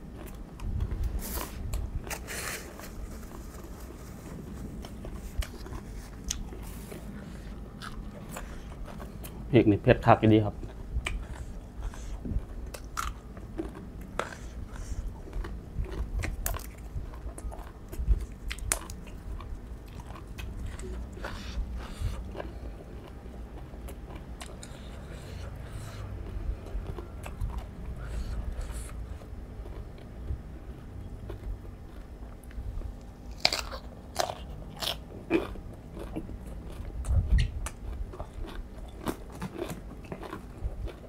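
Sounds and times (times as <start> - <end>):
crunching raw vegetables: 0.0 - 41.0
wet chewing: 0.1 - 9.5, 10.5 - 41.0.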